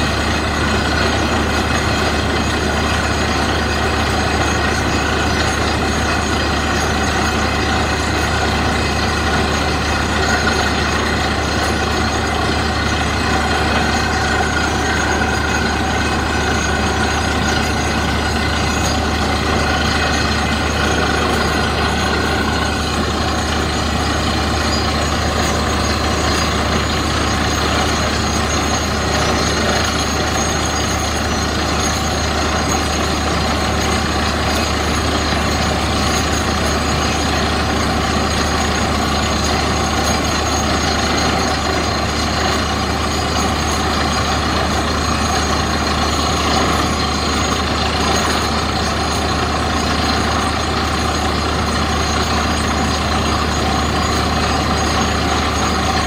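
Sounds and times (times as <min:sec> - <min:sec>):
drilling rig engine drone: 0:00.0 - 0:56.0.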